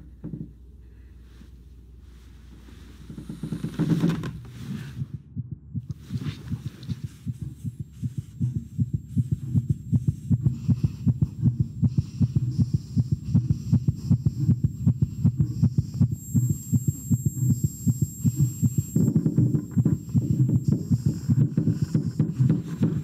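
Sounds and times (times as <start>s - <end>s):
heartbeat thumps: 3.0s - 23.0s.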